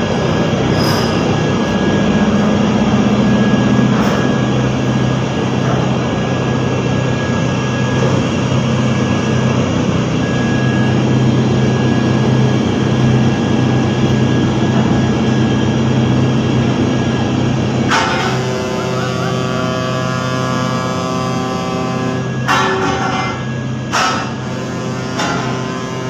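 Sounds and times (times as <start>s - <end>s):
ship engine droning: 0.0s - 26.0s.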